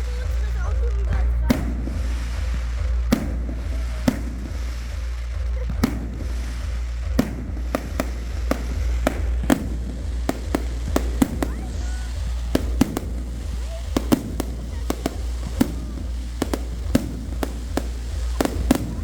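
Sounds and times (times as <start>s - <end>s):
fireworks bangs: 0.0s - 19.0s
low bass music: 0.0s - 19.0s.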